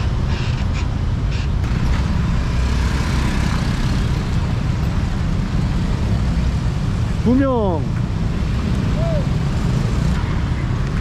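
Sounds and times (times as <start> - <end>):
cars and scooters driving past: 0.0 - 11.0.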